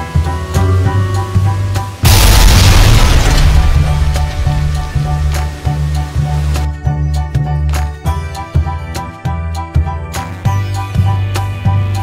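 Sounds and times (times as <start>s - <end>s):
background music with beat: 0.0s - 2.0s, 3.4s - 12.0s.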